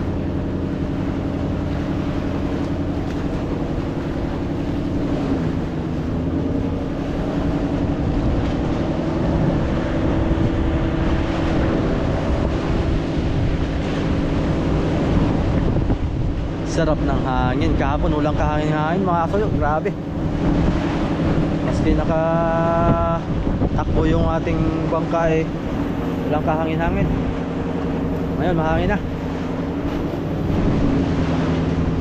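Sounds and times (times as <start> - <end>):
boat engine running: 0.0 - 32.0
wind on microphone: 0.0 - 32.0.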